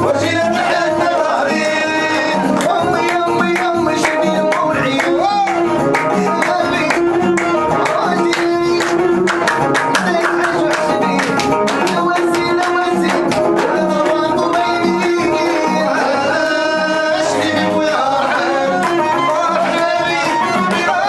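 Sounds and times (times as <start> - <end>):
keyboard with fast beat: 0.0 - 21.0.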